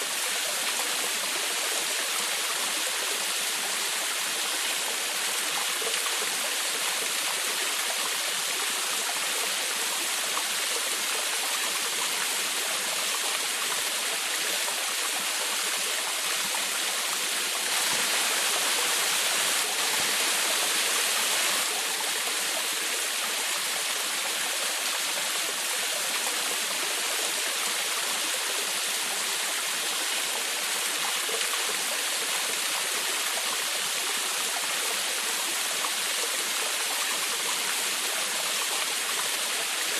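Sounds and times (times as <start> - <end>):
small waterfall rushing and splashing: 0.0 - 39.9.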